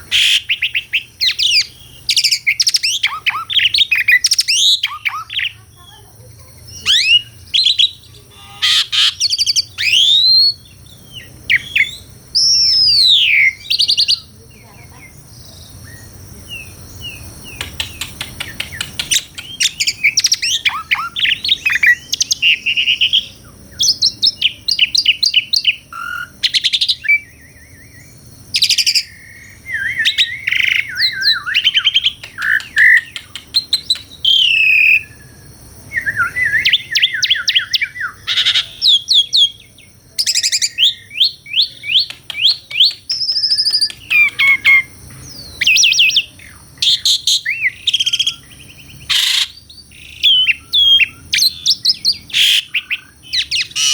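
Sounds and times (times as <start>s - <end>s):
starling singing whistles: 0.0s - 5.6s, 6.6s - 53.9s.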